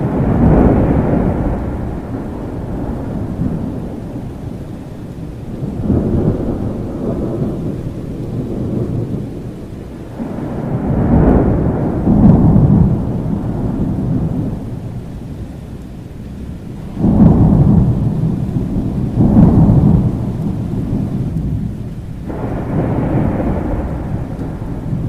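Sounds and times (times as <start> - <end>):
steady rain: 0.0 - 25.0
thunder rumbling: 0.0 - 25.0.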